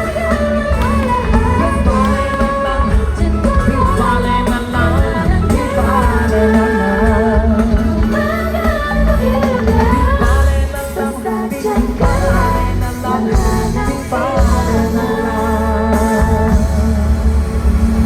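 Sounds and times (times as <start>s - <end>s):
heavy bass beat: 0.0s - 11.0s, 12.0s - 18.0s
person singing: 0.0s - 17.7s.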